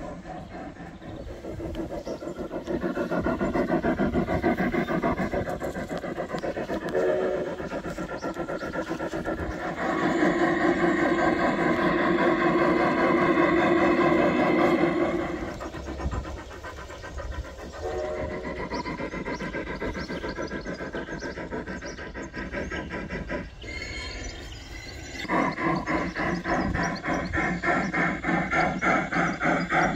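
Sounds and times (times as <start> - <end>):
model train clicking on track: 0.0 - 29.9.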